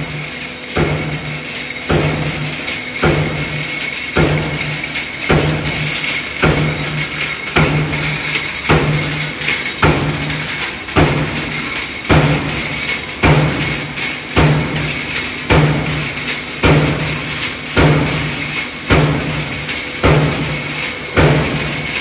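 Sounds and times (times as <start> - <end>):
steady high whine: 0.0 - 21.9
punch press thuds: 0.8 - 21.8.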